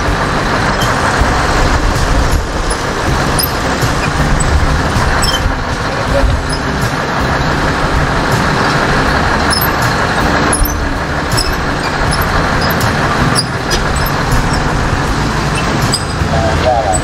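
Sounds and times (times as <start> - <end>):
diesel truck engine running: 0.0 - 17.0
road and traffic noise: 0.0 - 17.0.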